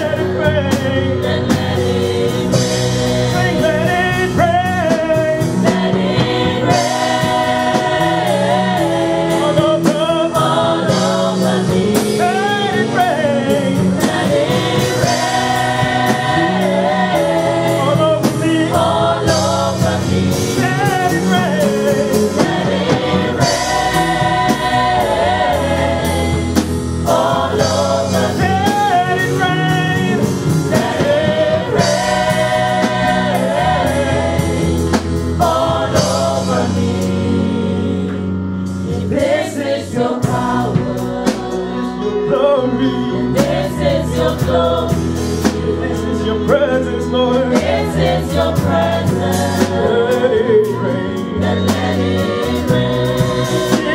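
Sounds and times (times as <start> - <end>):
group singing worship song: 0.0 - 53.9
live band with drums: 0.0 - 53.9.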